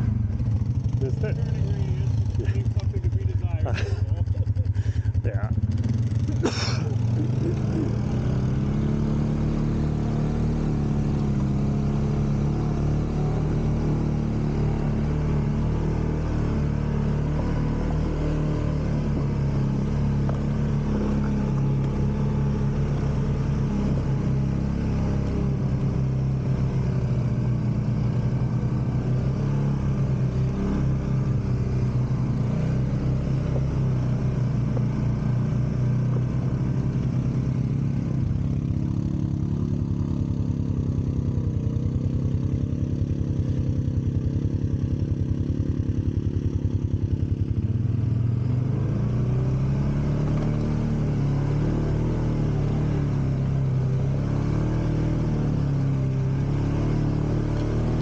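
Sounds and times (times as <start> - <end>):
utility vehicle engine running: 0.0 - 58.0.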